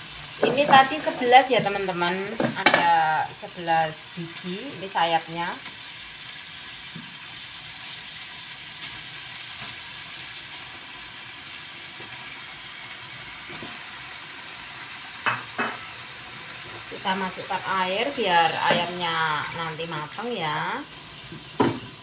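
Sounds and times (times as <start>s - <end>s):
spice paste sizzling in a wok: 0.0s - 22.0s.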